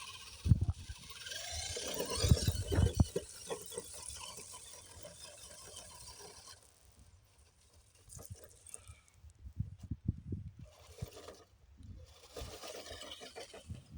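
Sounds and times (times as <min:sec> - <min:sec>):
toy truck motor whining: 0:00.0 - 0:09.4, 0:10.5 - 0:13.9.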